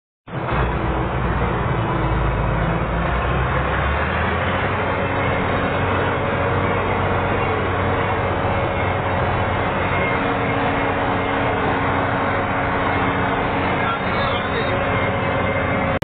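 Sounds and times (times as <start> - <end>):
combine harvester running: 0.3 - 16.0
steady mechanical whine: 0.3 - 16.0.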